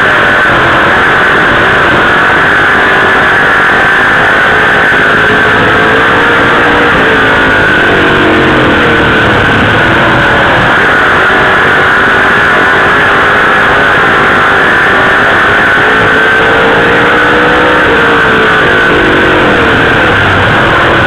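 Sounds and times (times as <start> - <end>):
race car engine at speed: 0.0 - 21.0.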